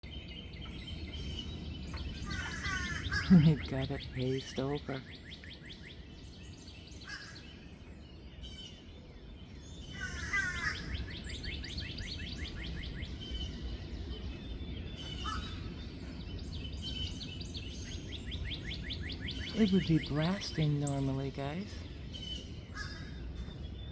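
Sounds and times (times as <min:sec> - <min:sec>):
songbirds singing: 0:00.0 - 0:23.9
steady low rumble: 0:00.0 - 0:23.9.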